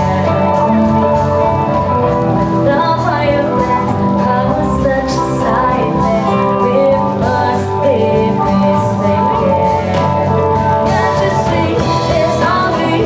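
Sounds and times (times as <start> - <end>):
woman singing: 0.0 - 1.4, 2.6 - 13.0
drum kit: 0.0 - 13.0
electric bass: 0.0 - 13.0.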